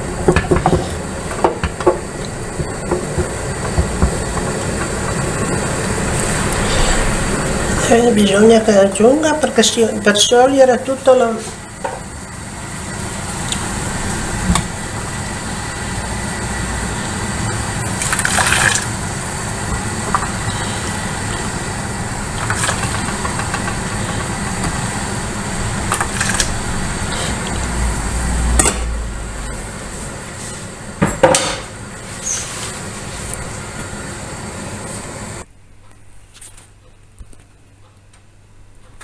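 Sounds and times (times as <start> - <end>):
sugar hissing and bubbling: 0.0 - 31.0, 31.6 - 35.5.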